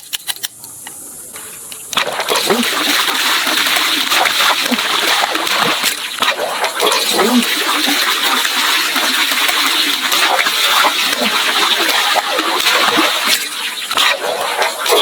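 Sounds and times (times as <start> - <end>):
water gushing and splashing: 1.8 - 15.0.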